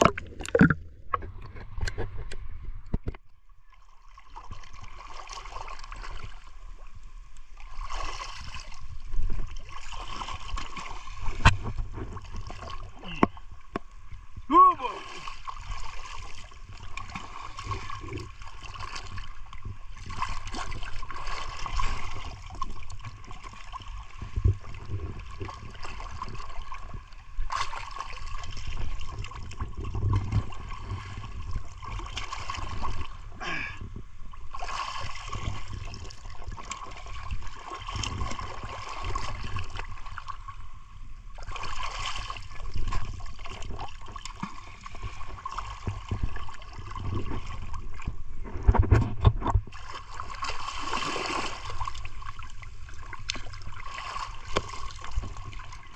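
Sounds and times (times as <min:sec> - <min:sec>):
seawater sloshing and trickling: 0:03.0 - 0:55.9.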